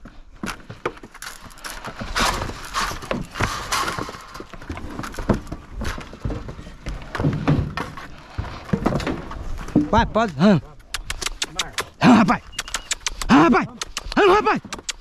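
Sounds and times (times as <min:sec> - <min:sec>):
cattle hooves on wooden boards: 0:00.0 - 0:15.0.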